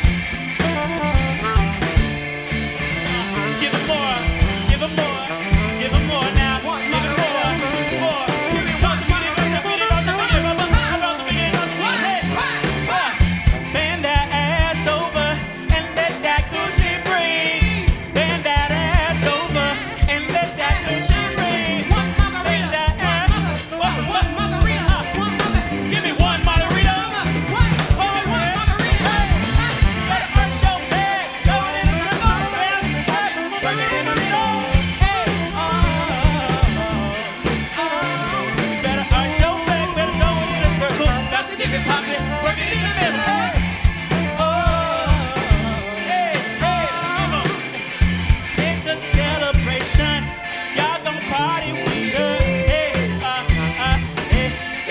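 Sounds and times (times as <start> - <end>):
wavering lead melody: 0.0 - 49.6
drum kit beat: 0.0 - 54.9
electric bass: 0.0 - 54.9
guitar: 0.0 - 54.9.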